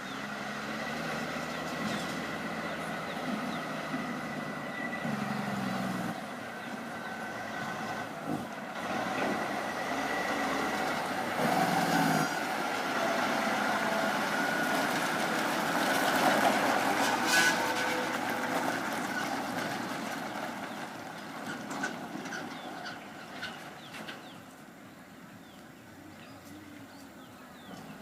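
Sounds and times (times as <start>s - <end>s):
truck engine running: 0.0s - 25.2s.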